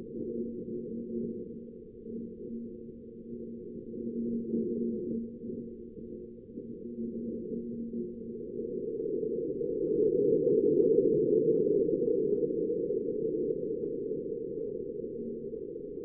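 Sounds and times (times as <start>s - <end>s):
faint steady hum tones: 0.0s - 16.0s.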